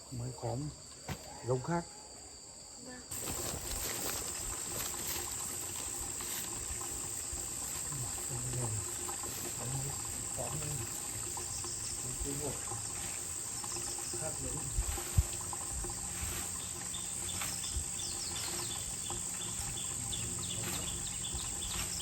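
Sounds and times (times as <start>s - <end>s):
insects chirping chorus: 0.0s - 22.0s.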